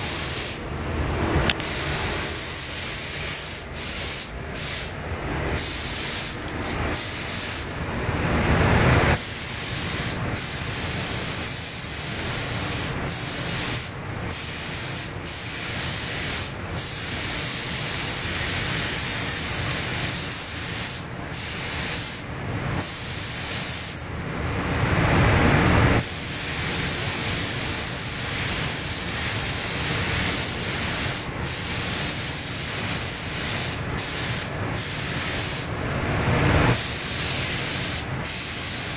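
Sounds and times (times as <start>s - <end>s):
spray gun hissing: 0.0s - 0.6s, 1.6s - 7.7s, 9.2s - 22.2s, 22.8s - 24.0s, 26.0s - 35.7s, 36.7s - 38.9s.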